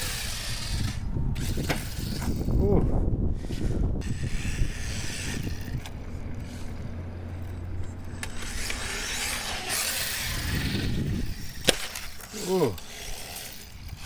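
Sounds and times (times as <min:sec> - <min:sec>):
rc car motor whine: 0:00.0 - 0:14.0
tyres running over ground: 0:00.0 - 0:14.0.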